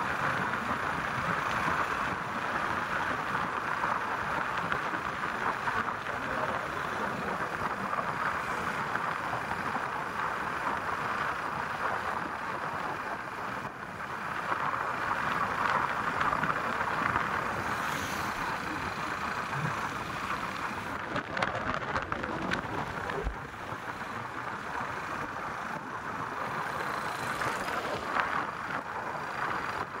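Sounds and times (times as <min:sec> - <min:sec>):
vehicle rushing along road: 0:00.4 - 0:30.0.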